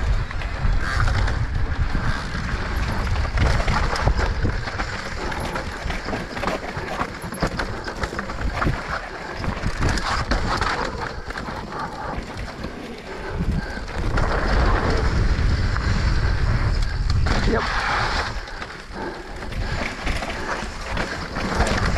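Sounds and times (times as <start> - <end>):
bike clicks and rattles: 0.0 - 21.9
tyres running over dirt and rocks: 0.0 - 21.9
wind rumbling on microphone: 0.0 - 21.9.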